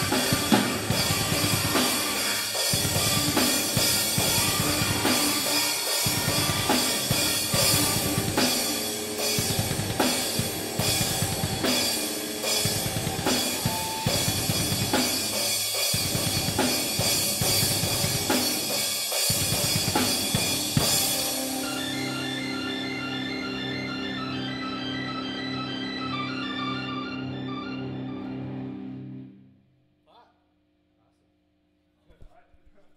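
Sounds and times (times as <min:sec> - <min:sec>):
drum kit playing: 0:00.0 - 0:26.8.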